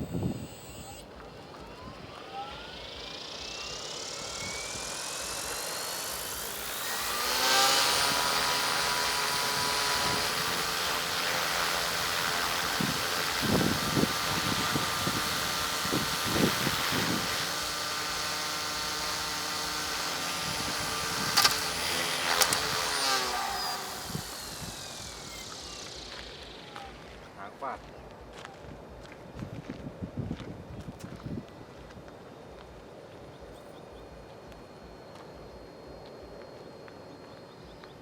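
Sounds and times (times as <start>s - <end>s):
model airplane motor whining: 0.0s - 28.0s, 32.0s - 38.0s.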